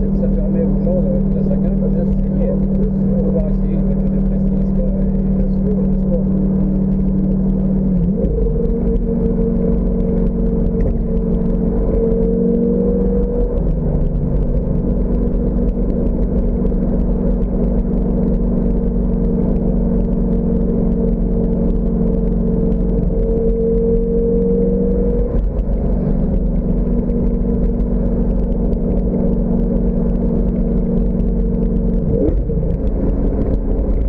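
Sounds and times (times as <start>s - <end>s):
car engine running: 0.0s - 34.0s
low rumble: 0.0s - 34.0s.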